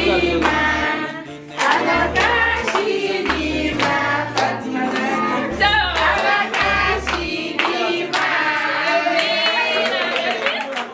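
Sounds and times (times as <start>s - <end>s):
backing music with bass line: 0.0s - 8.8s
women and children singing: 0.0s - 10.2s
rhythmic hand clapping: 0.0s - 10.9s.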